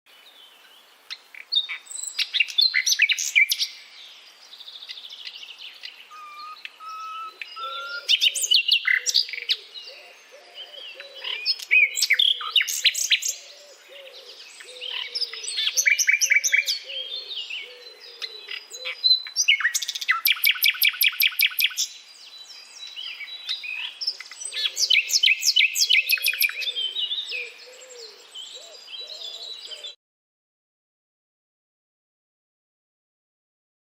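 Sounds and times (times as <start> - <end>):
nightingale singing: 0.1 - 30.0.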